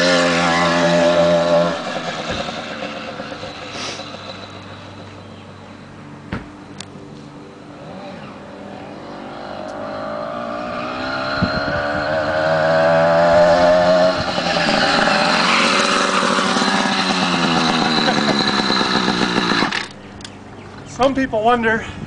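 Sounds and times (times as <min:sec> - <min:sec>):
two-stroke engine buzzing: 0:00.0 - 0:06.2, 0:07.4 - 0:20.9.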